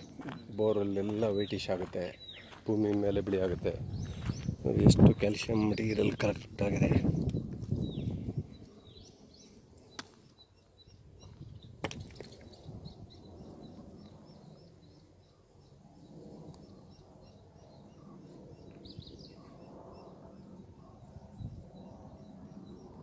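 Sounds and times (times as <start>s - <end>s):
bird chirping: 0.0s - 3.2s, 7.0s - 23.0s.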